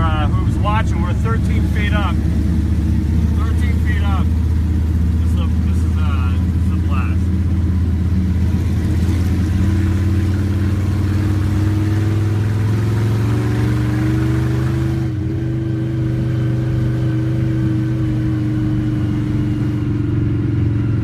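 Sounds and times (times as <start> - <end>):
truck engine drone from inside cab: 0.0 - 21.0.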